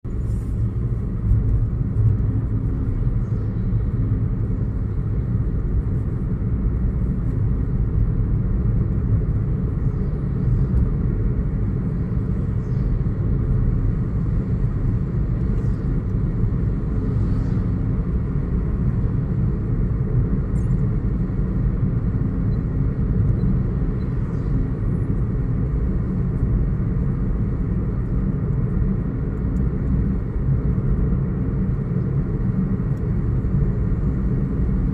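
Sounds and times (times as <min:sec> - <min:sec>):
car engine and road noise: 0:00.0 - 0:34.9.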